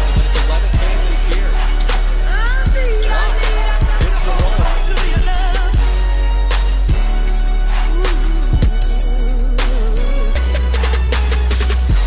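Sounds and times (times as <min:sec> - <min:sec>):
music with deep bass and drums: 0:00.0 - 0:12.0.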